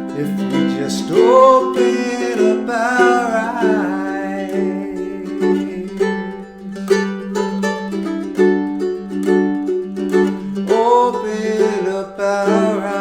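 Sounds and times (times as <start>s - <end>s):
ukulele playing chords: 0.0s - 13.0s.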